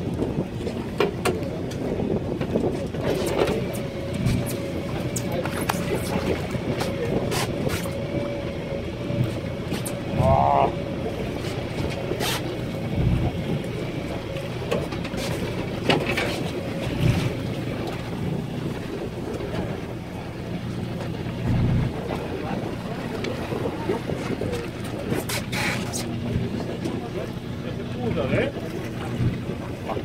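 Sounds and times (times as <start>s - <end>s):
boat engine running: 0.0s - 30.0s
water slapping against hull: 0.0s - 30.0s.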